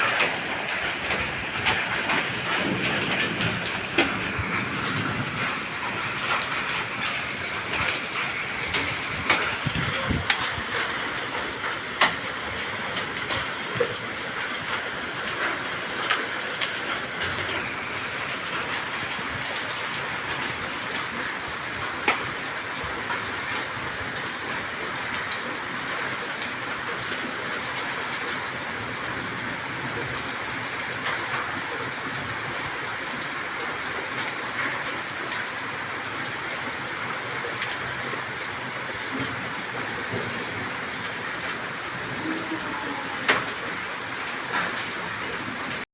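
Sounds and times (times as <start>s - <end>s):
hailstones knocking: 0.0s - 45.8s
heavy rain pouring: 0.0s - 45.9s.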